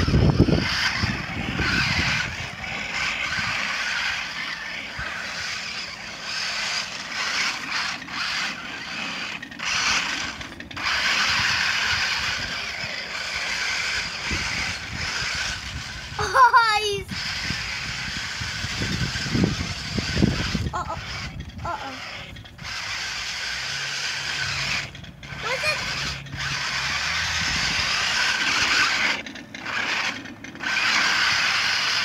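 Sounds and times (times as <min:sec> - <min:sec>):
toy truck motor whirring: 0:00.0 - 0:32.0.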